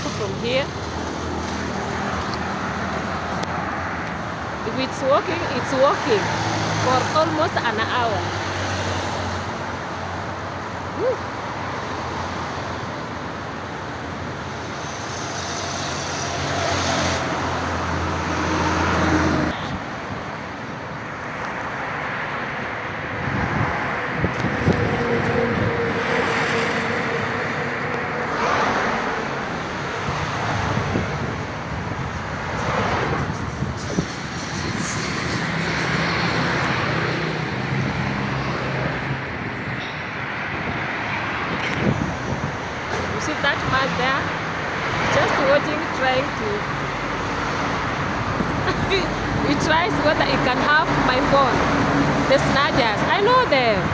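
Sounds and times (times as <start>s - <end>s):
road traffic passing: 0.0s - 53.9s.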